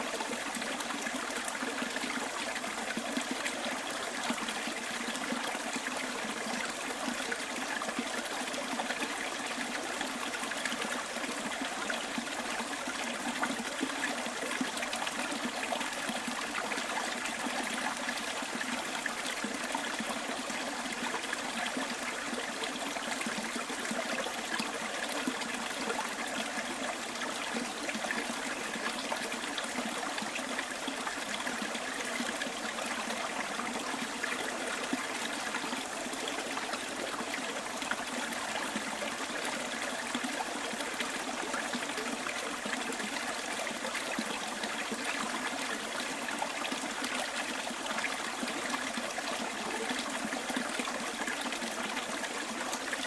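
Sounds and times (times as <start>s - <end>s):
stream babbling over stones: 0.0s - 53.0s.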